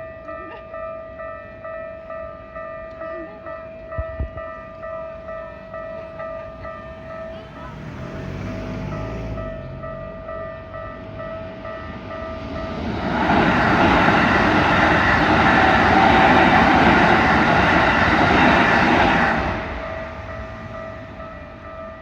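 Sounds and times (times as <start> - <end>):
level crossing bells ringing: 0.0 - 22.0
train wheels rumbling on rails: 2.6 - 22.0.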